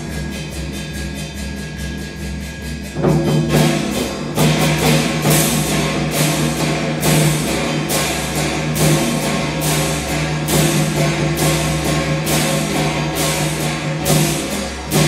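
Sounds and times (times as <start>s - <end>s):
drum and gong strikes: 0.0s - 15.0s.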